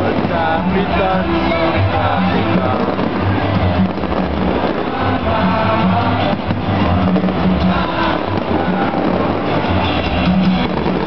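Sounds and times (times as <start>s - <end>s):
loud music with steady beat: 0.0s - 11.0s.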